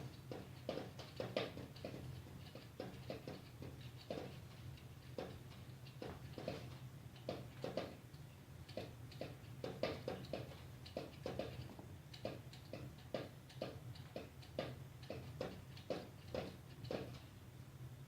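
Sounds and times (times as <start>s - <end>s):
steady low hum: 0.0s - 18.0s
clicking and knocking: 0.1s - 8.0s, 8.7s - 17.3s.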